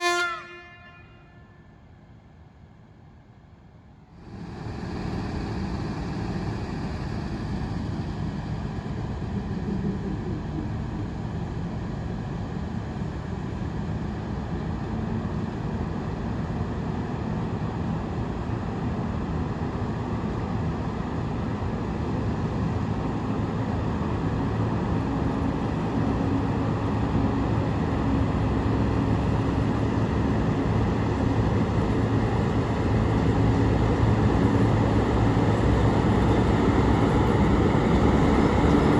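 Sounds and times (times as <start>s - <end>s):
train running noise: 0.0s - 1.5s, 4.1s - 38.9s
low engine hum: 4.1s - 38.9s.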